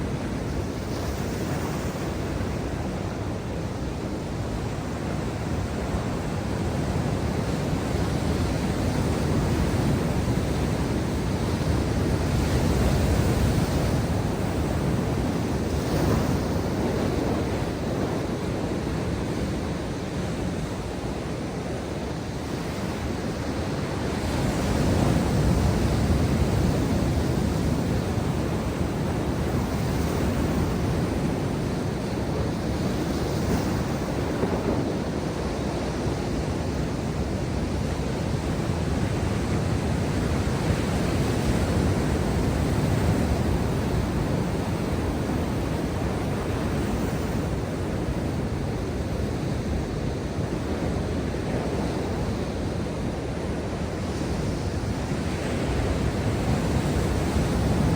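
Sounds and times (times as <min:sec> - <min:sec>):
ocean surf breaking on shore: 0:00.0 - 0:57.9.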